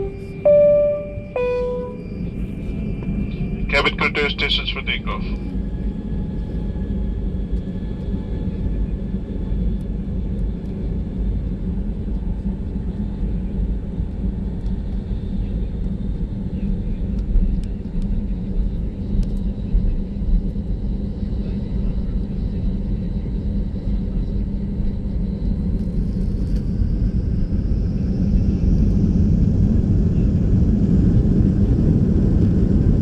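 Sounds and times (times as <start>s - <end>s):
jet engines and rolling wheels rumble: 0.0s - 33.0s.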